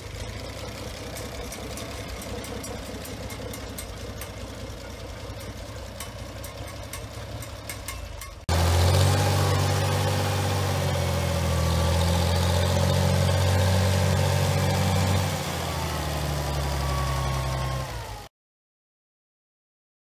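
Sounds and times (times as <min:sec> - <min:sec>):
tractor engine running: 0:00.0 - 0:18.3.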